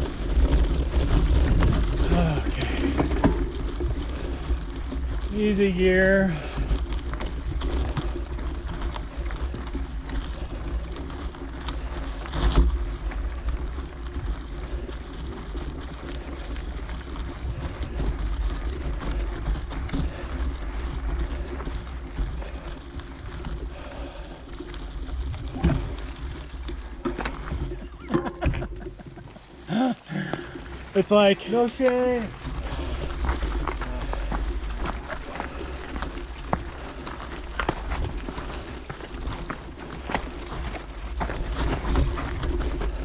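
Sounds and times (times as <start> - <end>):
mountain bike on dirt trail: 0.0 - 43.0
wind rumbling on microphone: 0.0 - 43.0.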